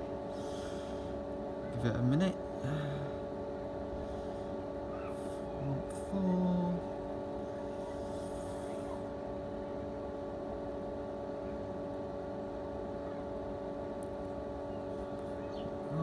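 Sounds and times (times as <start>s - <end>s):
electric pool pump humming: 0.0s - 16.0s.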